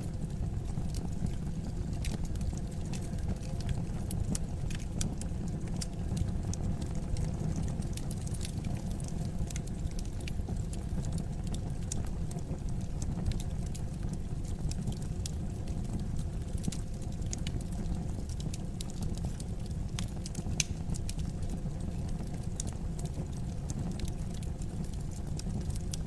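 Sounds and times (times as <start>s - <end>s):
fire popping and snapping: 0.0s - 26.0s
low rumble of flames: 0.0s - 26.0s.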